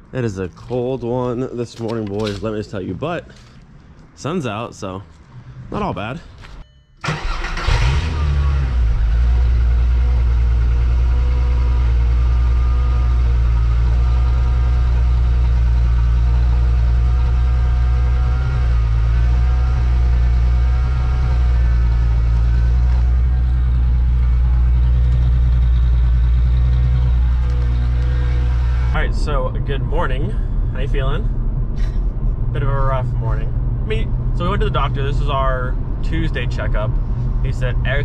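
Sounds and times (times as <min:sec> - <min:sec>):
car engine idling: 0:06.4 - 0:38.0.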